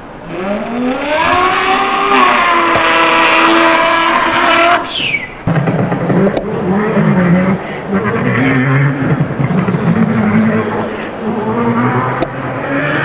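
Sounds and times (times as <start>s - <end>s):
man imitating car engine: 0.0s - 13.0s.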